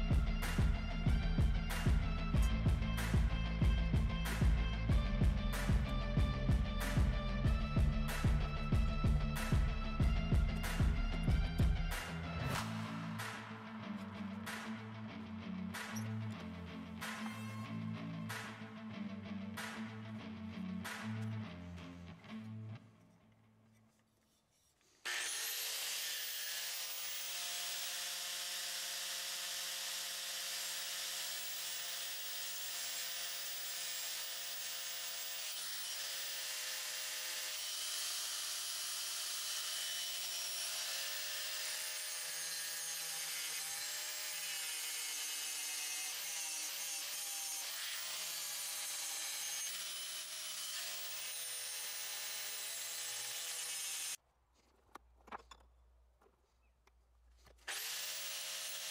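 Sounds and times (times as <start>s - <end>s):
angle grinder whining: 0.0s - 18.9s, 25.0s - 54.2s, 57.7s - 58.9s.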